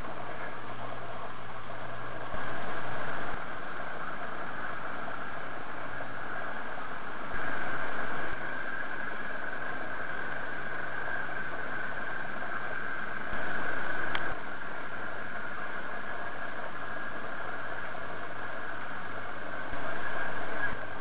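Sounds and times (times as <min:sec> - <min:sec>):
wind and water hiss: 0:00.0 - 0:21.0.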